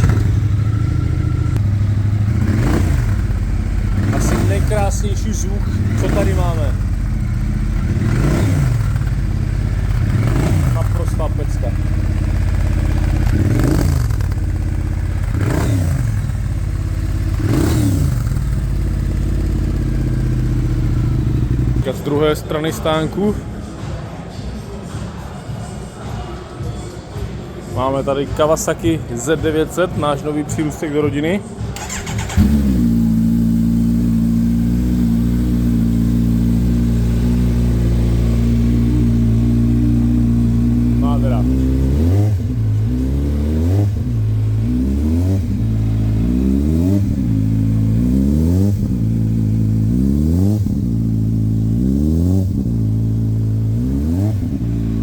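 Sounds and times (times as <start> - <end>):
motorcycle engine revving: 0.0 - 21.9, 31.8 - 55.0.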